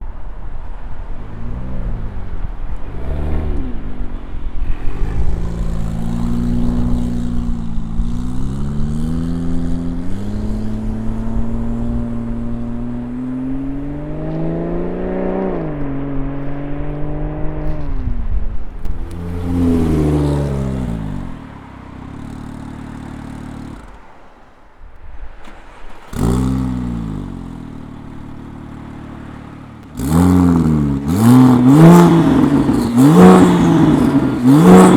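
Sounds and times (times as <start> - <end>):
sports car engine accelerating: 0.0 - 24.6, 25.4 - 34.9
engine revving: 1.0 - 24.6, 25.4 - 34.9.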